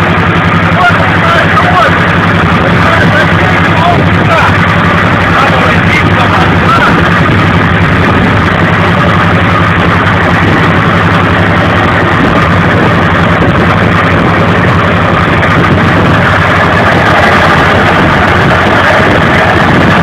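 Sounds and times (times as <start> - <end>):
boat engine running steadily: 0.0 - 20.0.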